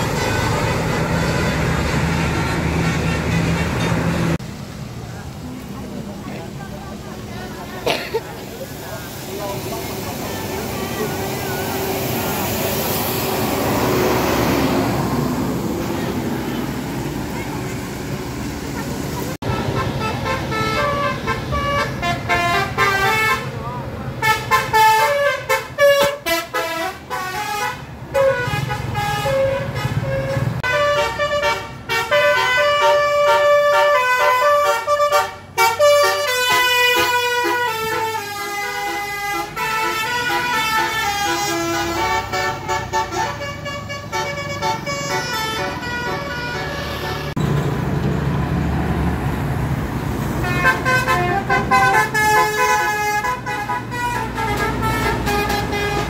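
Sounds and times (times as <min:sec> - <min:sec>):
bus musical horns: 0:00.0 - 0:04.4, 0:10.4 - 0:16.8, 0:18.8 - 0:47.4, 0:50.4 - 0:56.0
engine and road rumble: 0:00.0 - 0:56.0.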